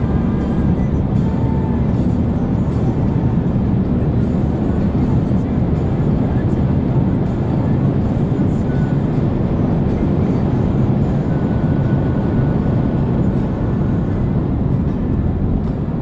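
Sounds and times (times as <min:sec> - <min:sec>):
car engine running: 0:00.0 - 0:16.0
road and wind noise: 0:00.0 - 0:16.0.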